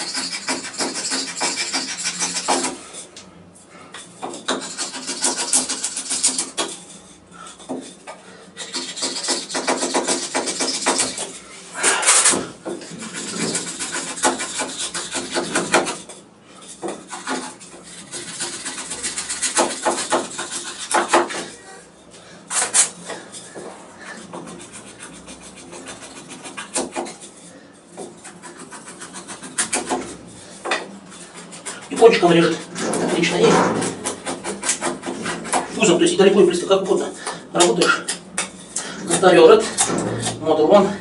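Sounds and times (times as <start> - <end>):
knife scraping wood: 0.0 - 3.2, 4.0 - 21.8, 22.5 - 36.0, 37.2 - 40.5.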